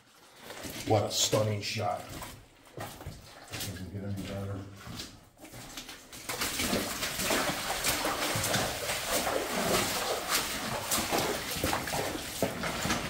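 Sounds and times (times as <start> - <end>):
boots splashing through muddy water: 0.0 - 13.0.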